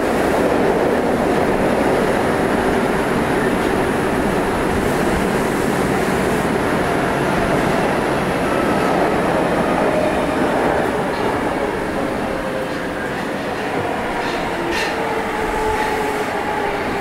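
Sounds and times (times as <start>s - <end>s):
subway train rumbling in tunnel: 0.0s - 17.0s.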